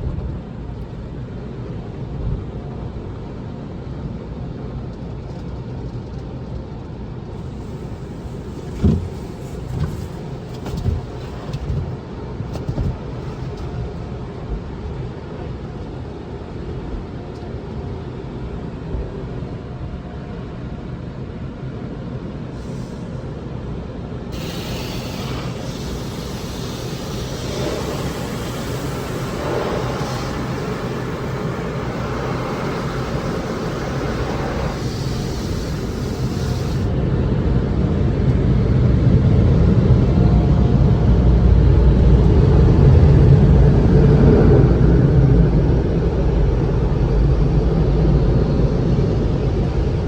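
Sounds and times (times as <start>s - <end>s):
low rumble inside a car: 0.0s - 50.0s.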